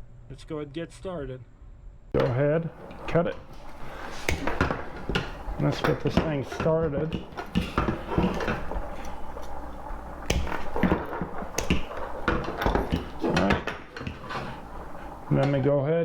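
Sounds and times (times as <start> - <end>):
clicks and knocks of handling: 2.2 - 15.7.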